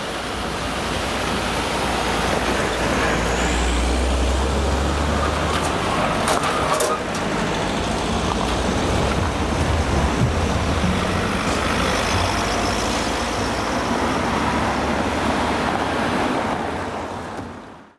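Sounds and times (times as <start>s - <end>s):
cars driving over crossing: 0.0s - 17.9s.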